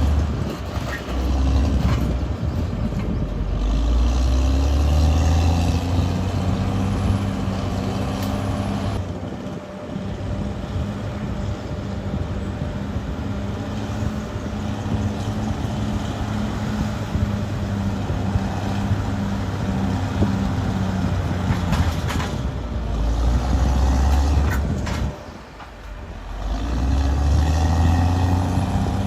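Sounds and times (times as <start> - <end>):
heavy diesel engine rumbling: 0.0 - 29.0.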